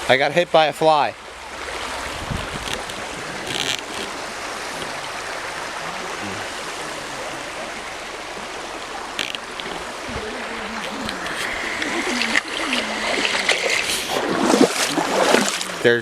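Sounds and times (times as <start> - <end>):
creek and waterfall rushing: 0.0 - 16.0.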